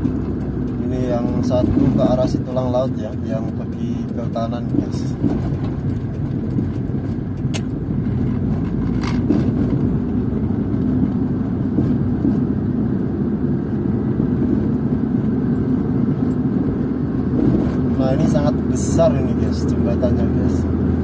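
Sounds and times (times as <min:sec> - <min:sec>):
car interior road and engine noise: 0:00.0 - 0:21.0.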